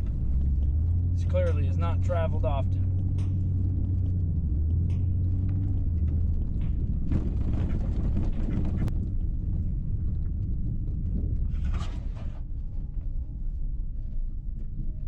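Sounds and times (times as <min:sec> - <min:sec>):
knocks and rattles: 0:00.0 - 0:12.3
truck engine drone: 0:00.0 - 0:15.0
tyres and suspension rumbling: 0:00.0 - 0:15.0.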